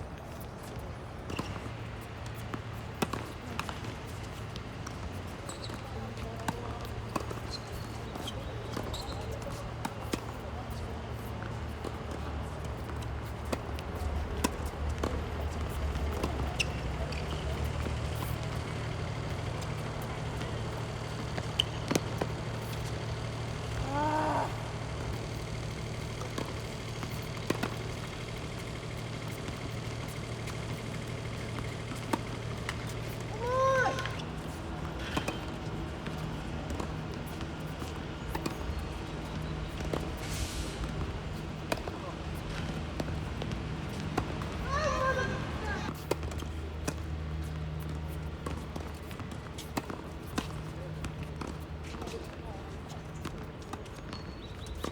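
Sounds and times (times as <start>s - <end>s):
city traffic rumble: 0.0s - 54.9s
tennis ball taps: 6.4s - 40.2s, 41.7s - 54.9s.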